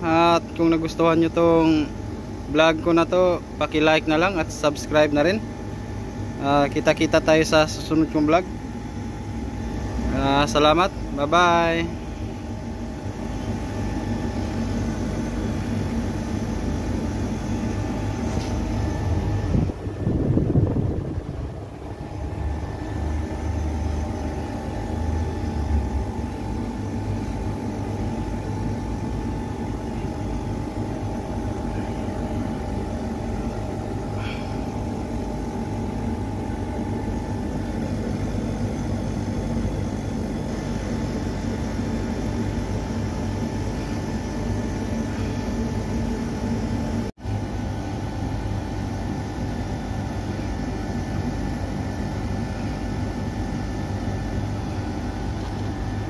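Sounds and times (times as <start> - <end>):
air conditioner unit humming: 0.0 - 56.0.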